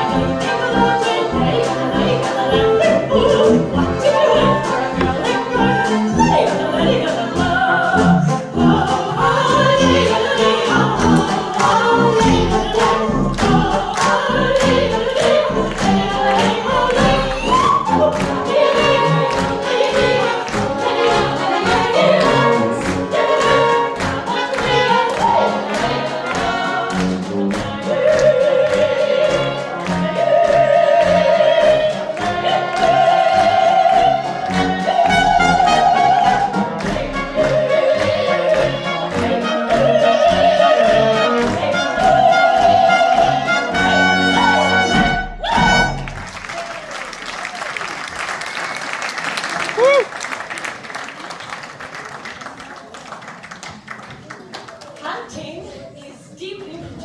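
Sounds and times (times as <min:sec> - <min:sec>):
instrumental accompaniment: 0:00.0 - 0:46.5
children's choir singing: 0:00.0 - 0:47.2.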